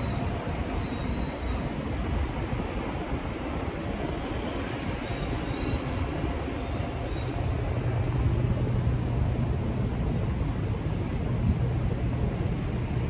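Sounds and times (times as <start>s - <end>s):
city traffic: 0.0s - 13.0s
vehicle engine hum: 0.0s - 13.0s.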